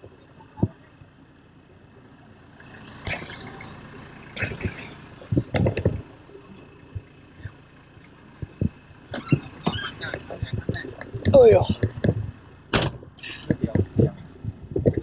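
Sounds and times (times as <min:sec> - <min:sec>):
road vehicle passing by: 0:00.0 - 0:15.0
voices: 0:00.0 - 0:15.0.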